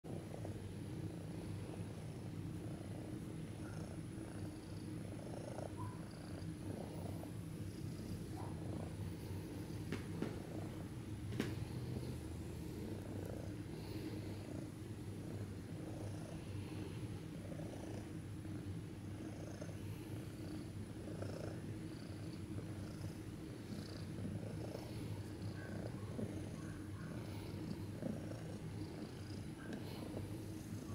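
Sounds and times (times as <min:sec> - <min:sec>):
cat purring: 0:00.1 - 0:30.9.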